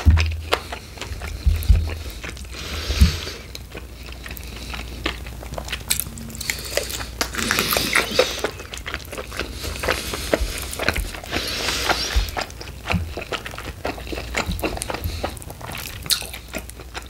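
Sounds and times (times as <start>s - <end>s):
chewing and crunchy bites: 0.0s - 17.0s.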